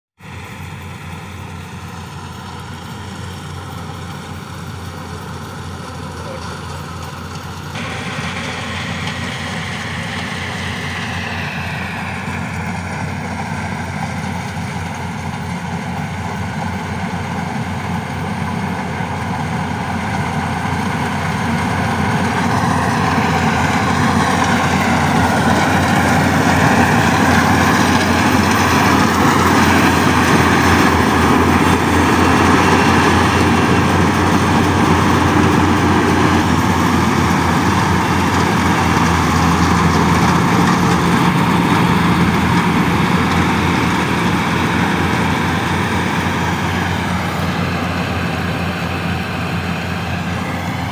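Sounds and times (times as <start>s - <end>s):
combine harvester diesel engine: 0.1s - 50.9s.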